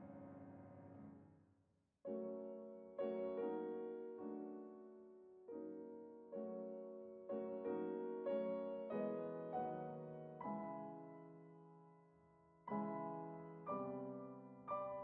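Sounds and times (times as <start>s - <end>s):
slow piano music: 0.0s - 1.3s, 2.1s - 15.0s.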